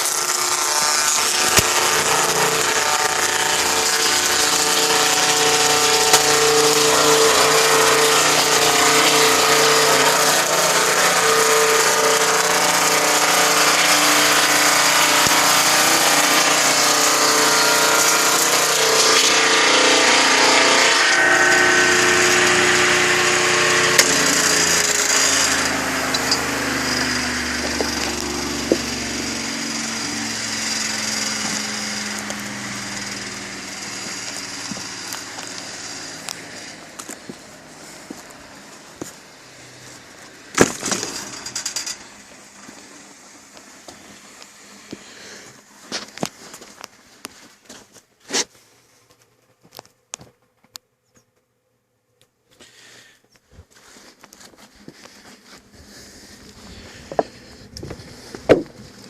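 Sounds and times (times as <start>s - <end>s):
sawmill running: 0.0s - 48.6s, 52.6s - 59.0s.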